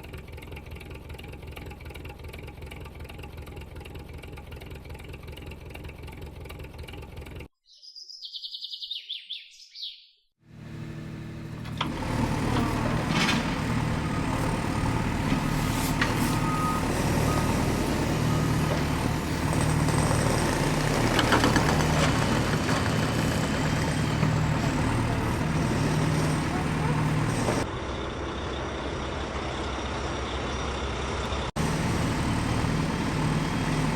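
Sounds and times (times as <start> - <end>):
heavy vehicle engine running: 0.0 - 7.5, 10.4 - 33.9.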